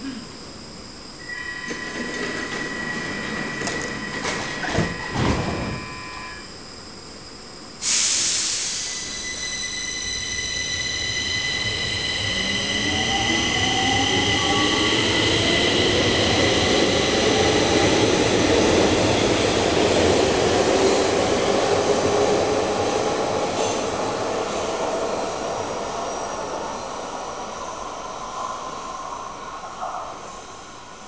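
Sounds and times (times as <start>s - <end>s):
train high whine: 0.0s - 31.0s
metro train hiss: 1.2s - 31.0s.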